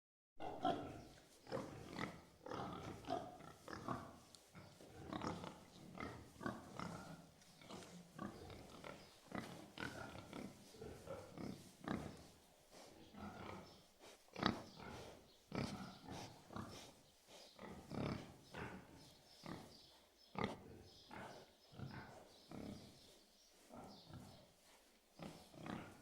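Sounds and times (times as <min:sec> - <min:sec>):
pigs grunting and oinking: 0:00.4 - 0:26.0.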